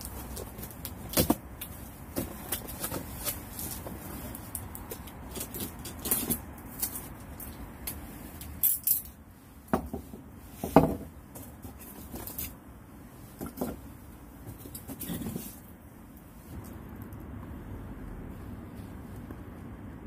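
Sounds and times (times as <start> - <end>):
camping gear clinking and knocking: 0.0 - 16.6.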